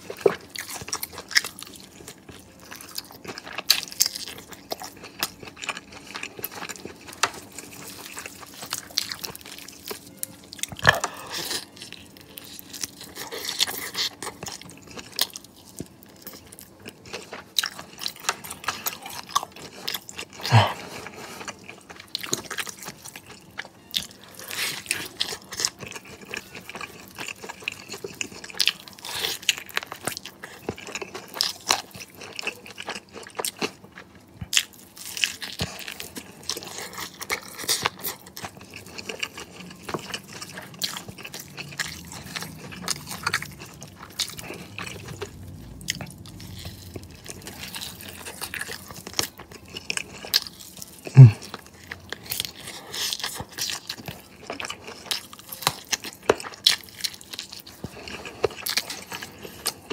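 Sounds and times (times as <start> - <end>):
crunchy chewing of fried chicken: 0.0 - 59.9.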